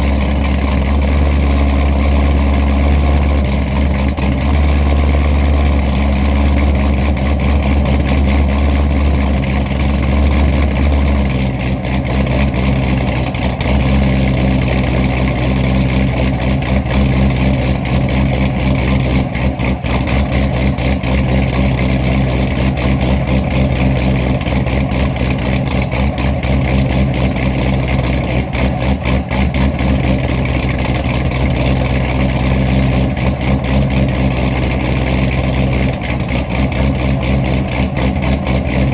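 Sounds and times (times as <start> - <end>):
car engine lopey idle: 0.0 - 38.9.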